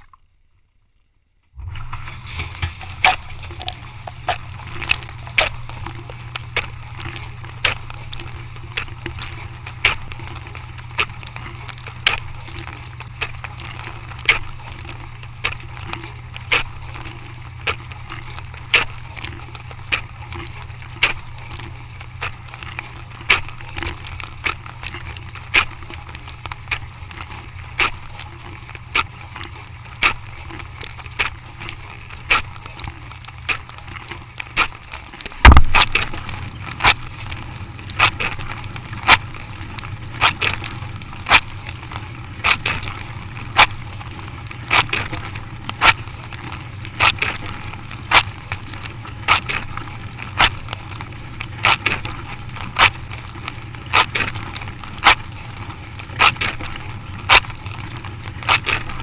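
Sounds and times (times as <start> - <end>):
machine humming: 1.6 - 53.8.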